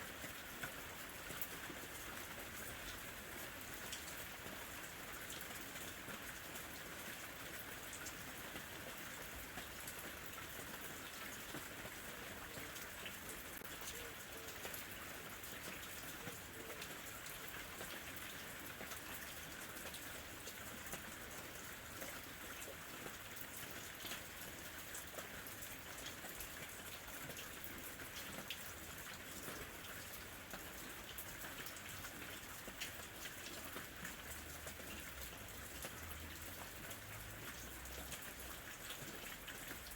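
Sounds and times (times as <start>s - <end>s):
light rain falling: 0.0s - 39.9s
raindrops ticking on a surface: 0.0s - 39.9s.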